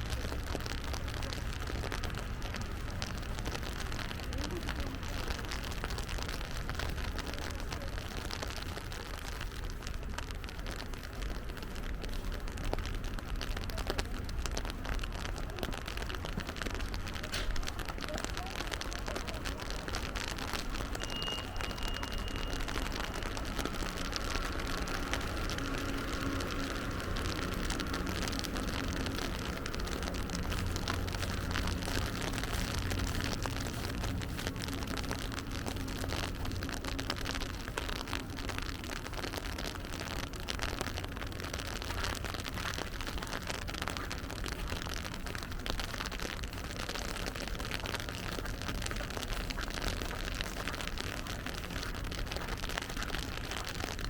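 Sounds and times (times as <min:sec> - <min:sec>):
low traffic rumble: 0:00.0 - 0:54.0
rain patter: 0:00.0 - 0:54.0.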